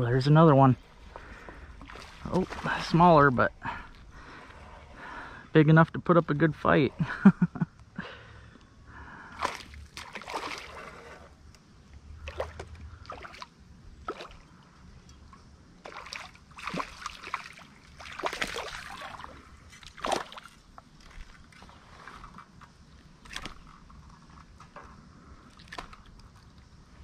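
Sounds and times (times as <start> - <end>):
creek water splashing: 0.6 - 5.4, 9.2 - 27.0.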